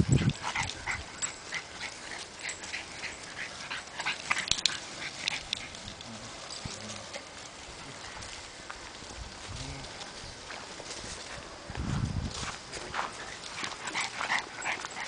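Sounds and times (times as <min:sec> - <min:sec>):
dogs rustling dry leaves: 0:00.0 - 0:15.0.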